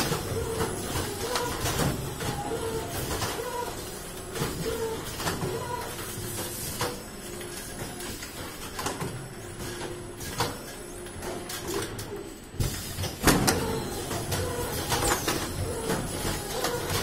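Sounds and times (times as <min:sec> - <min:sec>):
screen printing machine running: 0:00.0 - 0:17.0.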